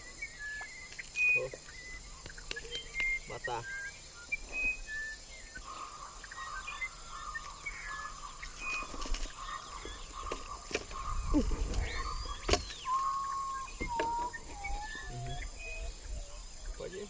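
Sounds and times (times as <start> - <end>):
insects buzzing: 0.0 - 17.0
whistled bird calls: 0.0 - 17.0.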